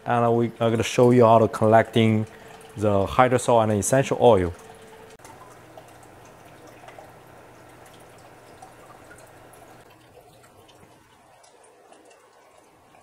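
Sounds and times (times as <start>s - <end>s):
liquid dripping and trickling: 0.0s - 13.0s
low steady hum: 0.0s - 13.0s.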